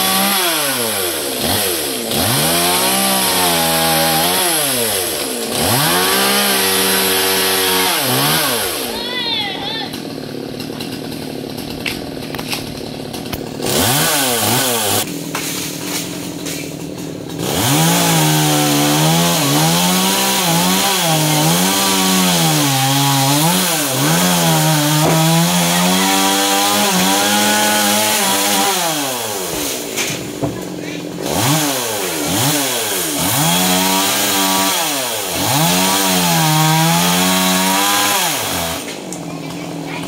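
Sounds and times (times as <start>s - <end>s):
chainsaw revving and cutting: 0.0s - 40.0s.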